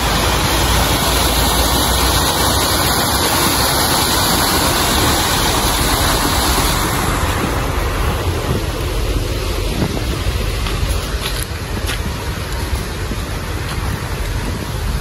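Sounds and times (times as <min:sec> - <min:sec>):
wind buffeting microphone: 0:02.5 - 0:15.0.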